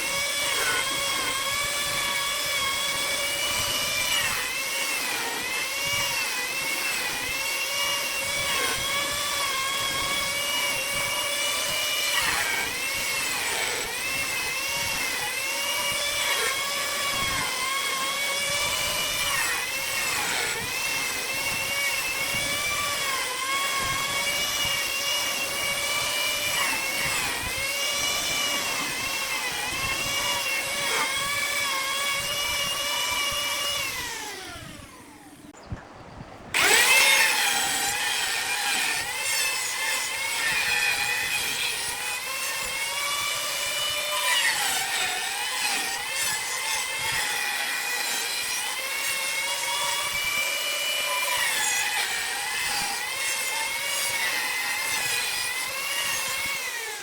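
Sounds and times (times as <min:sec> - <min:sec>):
power tool motor whining: 0:00.0 - 0:35.6, 0:36.5 - 0:57.0.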